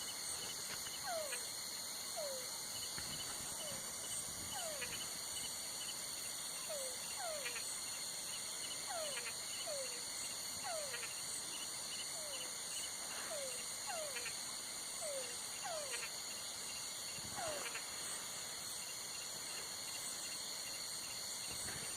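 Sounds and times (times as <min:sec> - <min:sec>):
frog calling: 0:00.0 - 0:18.2
insects trilling: 0:00.0 - 0:21.9.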